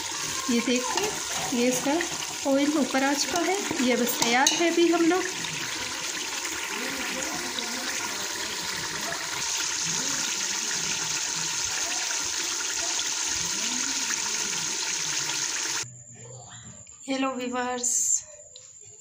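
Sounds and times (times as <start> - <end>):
gravy bubbling in a pot: 0.0 - 15.9
oil sizzling: 0.0 - 15.9.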